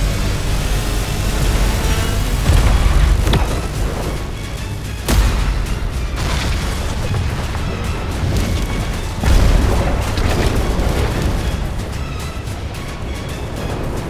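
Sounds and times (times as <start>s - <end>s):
deep rumbling energy roar: 0.0s - 14.0s
dramatic music: 0.0s - 14.0s
heavy booms: 1.6s - 14.0s.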